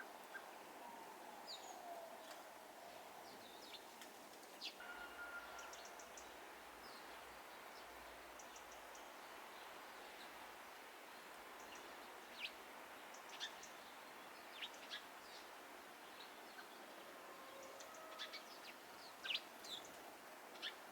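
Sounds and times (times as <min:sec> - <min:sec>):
steady outdoor hiss: 0:00.0 - 0:20.9.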